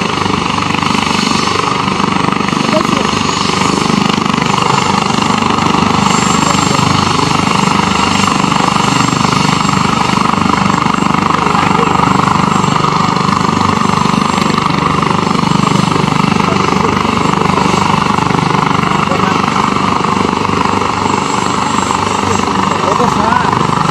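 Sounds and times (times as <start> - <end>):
helicopter turbine and rotor noise: 0.0 - 23.9.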